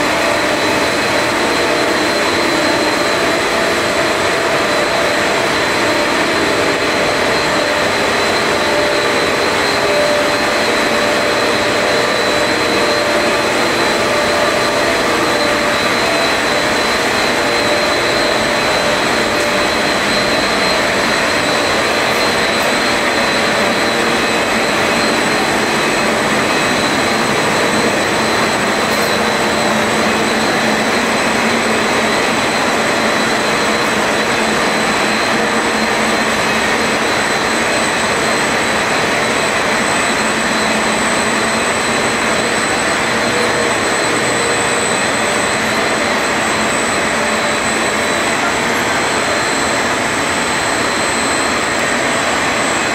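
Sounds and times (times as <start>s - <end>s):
high machine whine: 0.0s - 52.9s
loud rushing machine noise: 0.0s - 52.9s.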